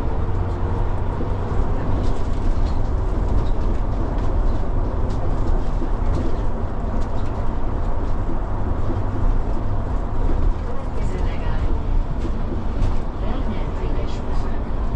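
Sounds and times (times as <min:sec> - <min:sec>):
bus engine rumbling: 0:00.0 - 0:14.9.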